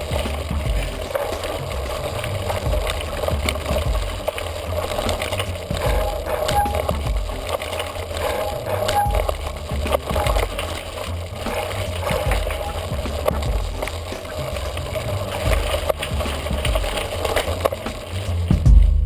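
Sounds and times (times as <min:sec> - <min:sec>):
bike clicks and knocks: 0:00.0 - 0:18.8
wind rumble on microphone: 0:00.0 - 0:19.0.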